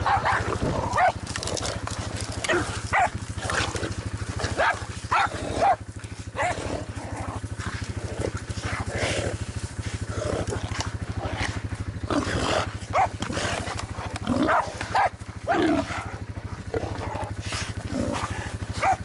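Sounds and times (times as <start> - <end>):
animal cries and growls: 0.0 - 19.0
engine idling: 0.0 - 19.0.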